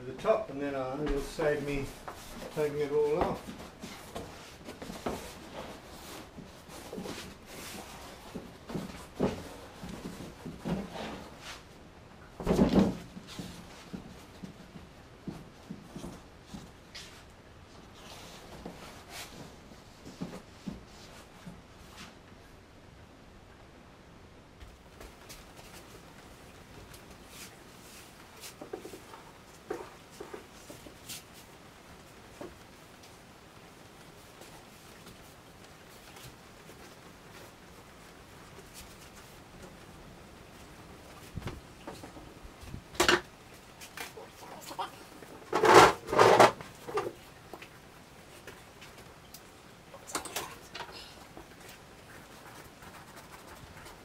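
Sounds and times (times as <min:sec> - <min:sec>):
fabric and foam rustling: 0:00.2 - 0:22.3, 0:24.8 - 0:50.0, 0:51.0 - 0:54.0.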